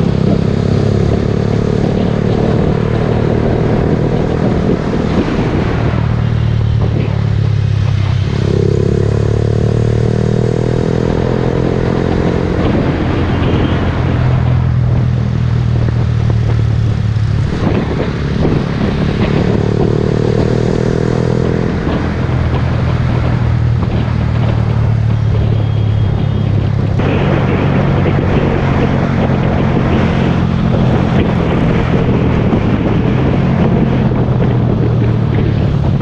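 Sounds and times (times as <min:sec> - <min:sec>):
motorcycle engine running: 0:00.0 - 0:36.0
road noise: 0:00.0 - 0:36.0
wind noise: 0:00.0 - 0:36.0.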